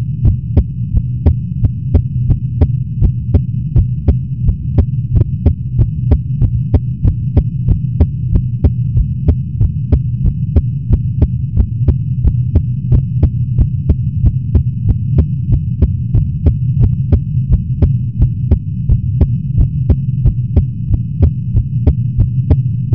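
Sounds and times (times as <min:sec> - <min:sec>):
air conditioner hum: 0:00.0 - 0:22.9
fast heartbeat thumps: 0:00.0 - 0:22.9.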